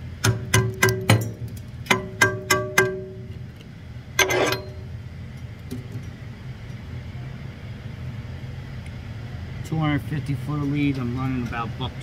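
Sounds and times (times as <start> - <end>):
low hum of running machinery: 0.0 - 12.0.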